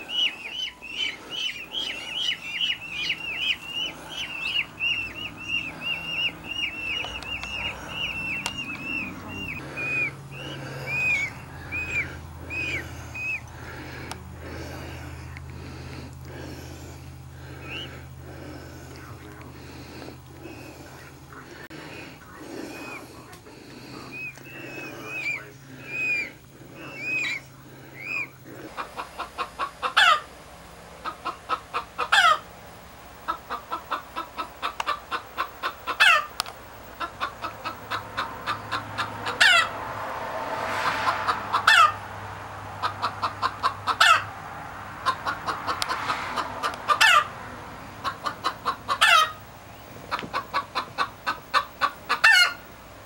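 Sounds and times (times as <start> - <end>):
bird chicks peeping: 0.0 - 30.4, 31.0 - 39.8, 45.0 - 52.8
chicken cackling and squawking: 0.0 - 52.9.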